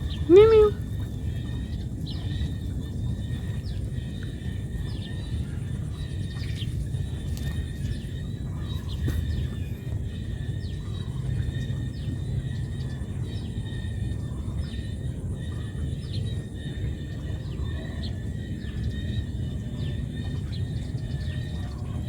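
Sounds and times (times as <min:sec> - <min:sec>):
faint high hum: 0:00.0 - 0:22.0.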